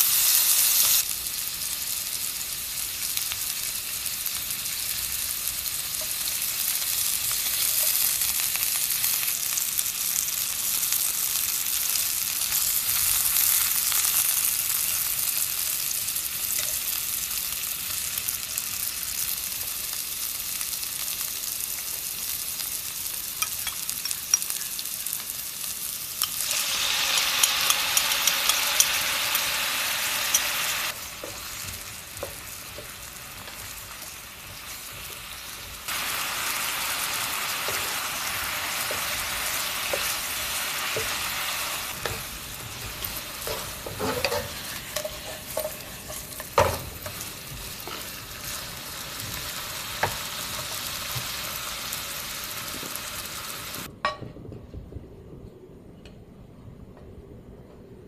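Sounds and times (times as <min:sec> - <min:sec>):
food sizzling in a frying pan: 0:00.0 - 0:53.9
sauce crackling in a pan: 0:00.0 - 0:53.9.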